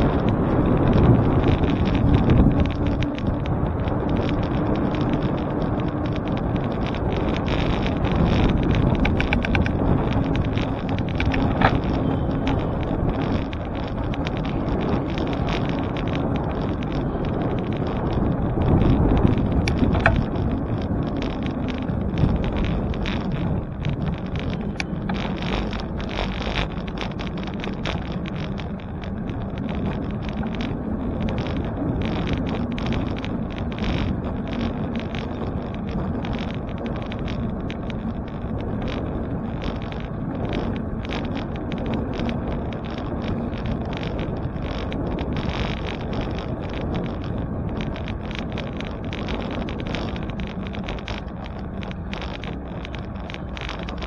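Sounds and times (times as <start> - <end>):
road and tyre rumble: 0.0 - 54.0
wind buffeting microphone: 0.0 - 54.0.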